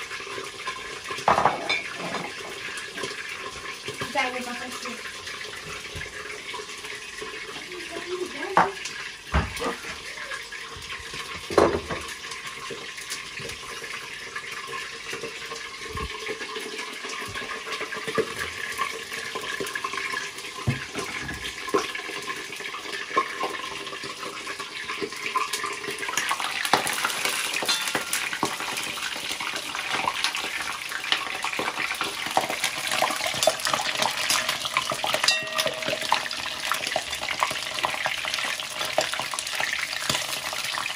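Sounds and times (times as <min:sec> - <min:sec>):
meat sizzling in hot oil: 0:00.0 - 0:40.9.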